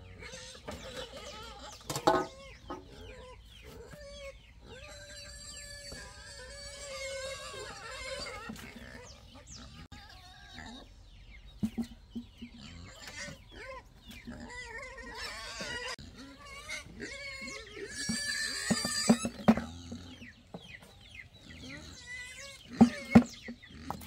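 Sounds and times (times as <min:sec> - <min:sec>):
farm animals calling: 0:00.0 - 0:24.0.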